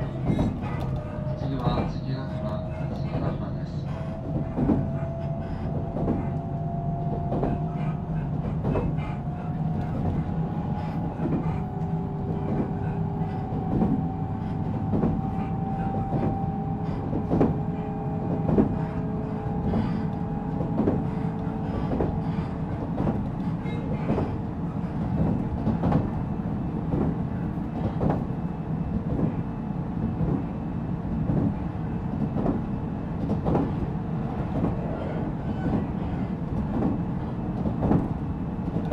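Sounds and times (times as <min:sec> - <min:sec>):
clacks over rail joints: 0:00.0 - 0:38.9
train wheels rumbling on rails: 0:00.0 - 0:38.9.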